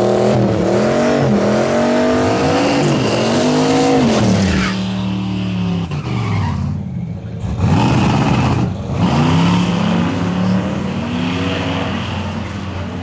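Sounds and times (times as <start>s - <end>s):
drag racing car engine revving: 0.0s - 12.9s.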